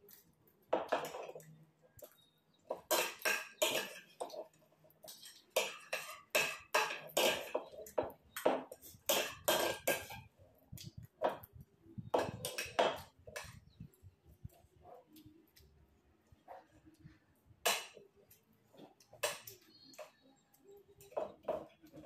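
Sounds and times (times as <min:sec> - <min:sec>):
spoons clinking on ceramic plates: 0:00.1 - 0:14.0, 0:16.6 - 0:22.0.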